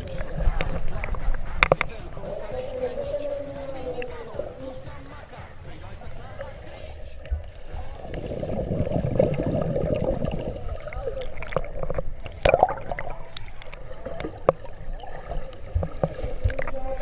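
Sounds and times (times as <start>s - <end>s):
underwater rushing and bubbling: 0.0s - 17.0s.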